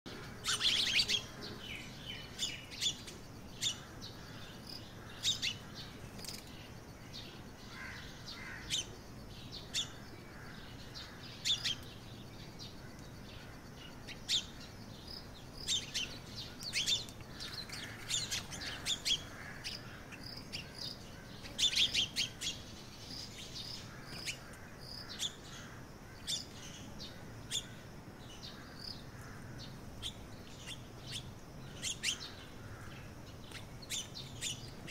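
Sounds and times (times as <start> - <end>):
faint steady background noise: 0.1 - 34.9
small birds chirping: 0.1 - 34.9.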